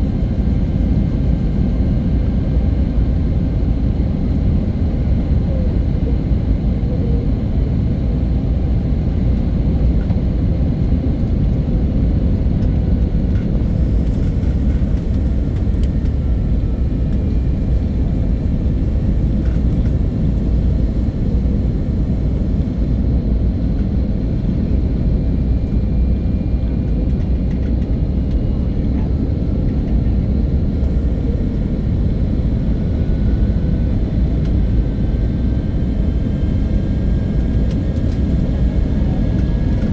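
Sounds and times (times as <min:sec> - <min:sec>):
faint jet engine whine: 0:00.0 - 0:39.9
jet airliner rumble: 0:00.0 - 0:39.9.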